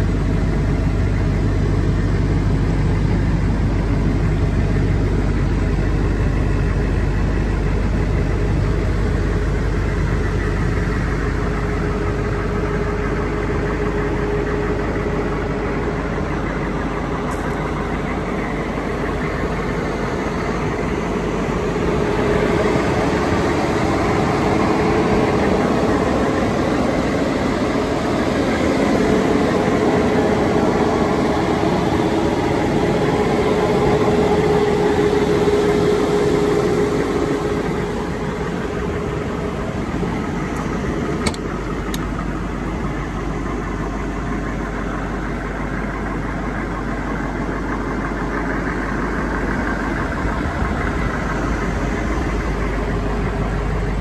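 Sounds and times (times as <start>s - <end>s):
diesel engine idling: 0.0s - 54.0s
steady whine: 0.0s - 54.0s.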